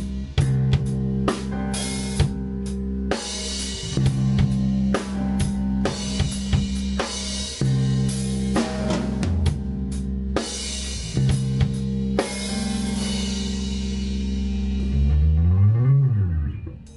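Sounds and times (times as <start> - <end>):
rock band playing: 0.0 - 15.2.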